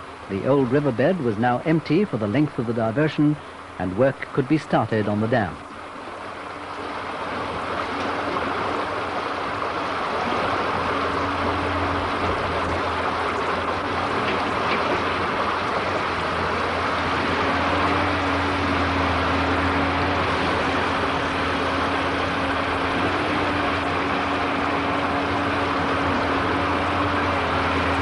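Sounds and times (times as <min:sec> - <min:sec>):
excavator diesel engine humming: 0:00.0 - 0:28.0
water rushing through a breach: 0:00.0 - 0:28.0.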